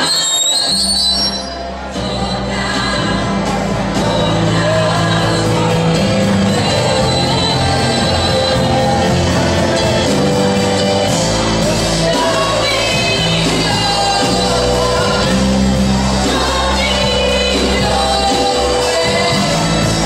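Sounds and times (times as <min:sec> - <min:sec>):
backing singers: 0:00.0 - 0:20.0
woman singing into a microphone: 0:01.8 - 0:20.0.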